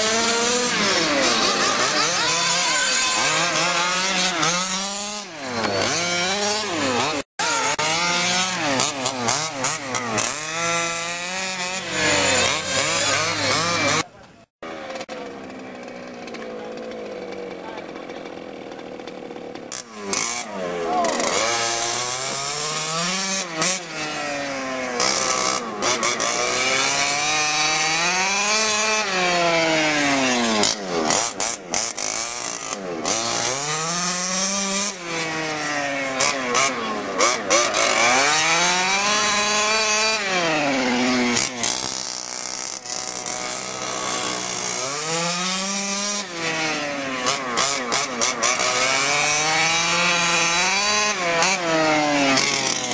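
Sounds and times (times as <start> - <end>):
two-stroke model car engine: 0.0 - 52.9.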